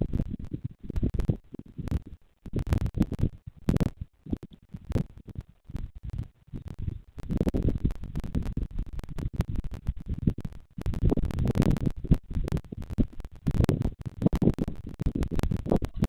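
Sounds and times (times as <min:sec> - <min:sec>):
crackling and scratching clicks: 0:00.0 - 0:16.0
wind buffeting microphone: 0:00.0 - 0:16.0.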